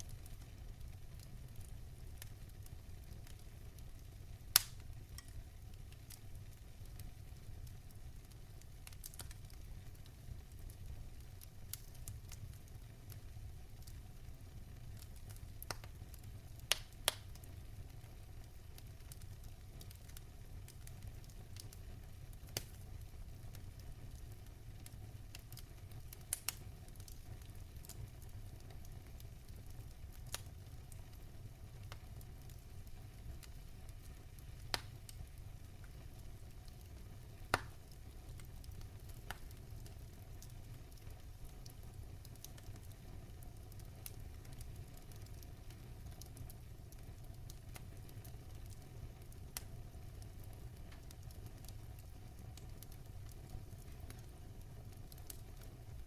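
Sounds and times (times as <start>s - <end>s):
fire crackling pops: 0.0s - 56.0s
wood fire burning: 0.0s - 56.0s.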